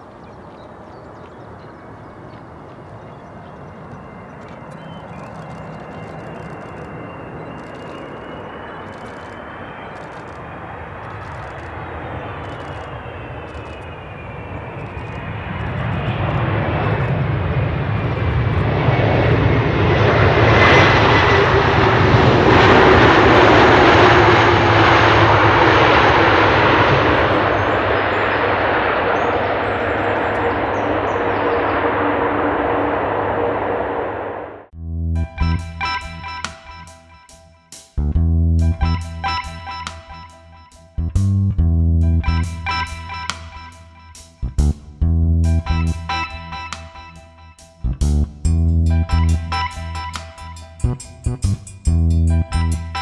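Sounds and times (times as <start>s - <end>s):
jet airliner engine roar: 0.0s - 34.7s, 35.5s - 37.2s, 38.8s - 41.0s, 42.2s - 44.5s, 45.5s - 47.9s, 48.9s - 53.0s.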